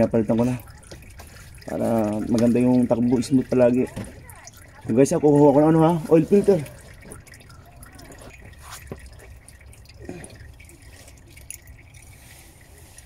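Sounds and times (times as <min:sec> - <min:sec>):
oil dripping into a pan: 0:00.0 - 0:13.0.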